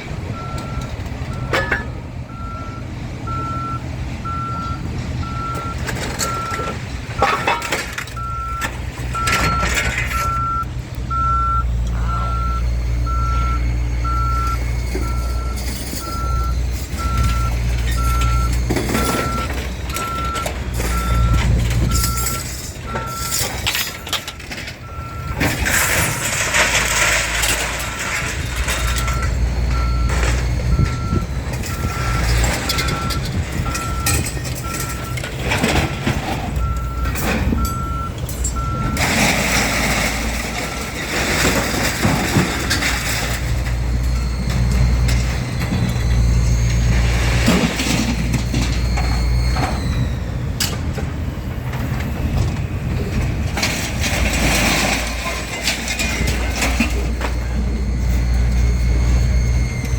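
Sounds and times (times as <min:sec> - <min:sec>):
heavy vehicle engine running: 0:00.0 - 0:59.9
vehicle back-up alarm beeping: 0:00.0 - 0:59.9.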